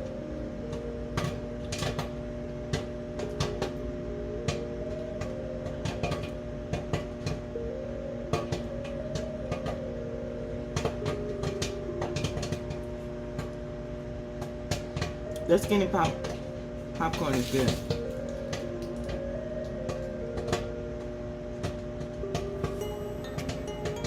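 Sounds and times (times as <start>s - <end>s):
microwave oven humming: 0.0s - 24.0s
popcorn popping: 0.0s - 24.0s.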